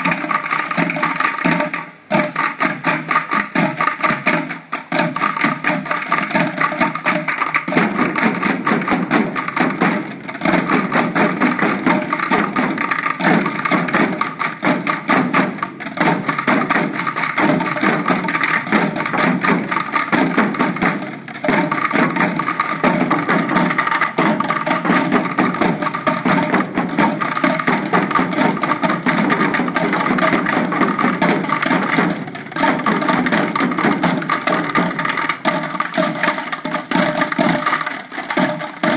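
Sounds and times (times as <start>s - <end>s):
sticks drumming on plastic buckets: 0.0s - 38.9s.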